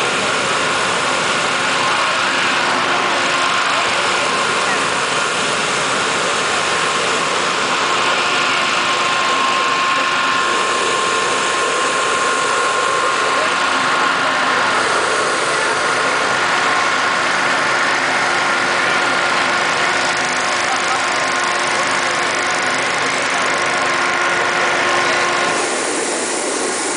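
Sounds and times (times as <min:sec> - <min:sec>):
propane burner roaring: 0:00.0 - 0:26.9.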